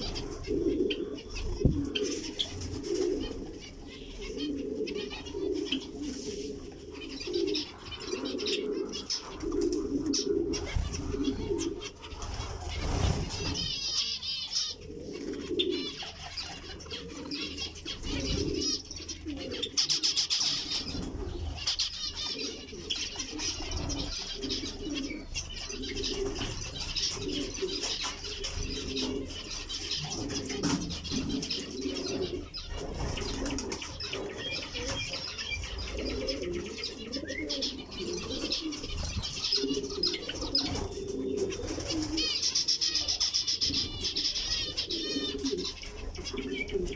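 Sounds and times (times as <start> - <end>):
pigeons cooing: 0.0 - 46.9
finches chirping: 6.8 - 46.9.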